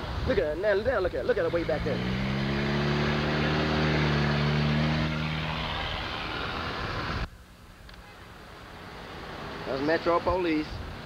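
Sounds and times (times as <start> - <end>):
car engine drone: 1.1 - 11.0.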